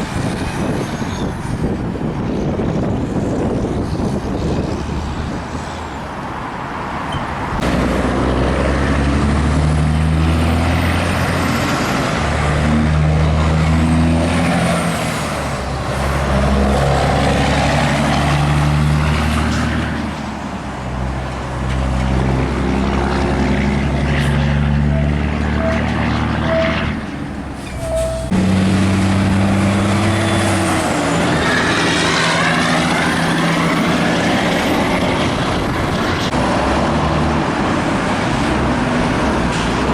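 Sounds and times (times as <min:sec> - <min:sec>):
diesel truck engines: 0:00.0 - 0:39.9
tyre and road noise: 0:00.0 - 0:39.9.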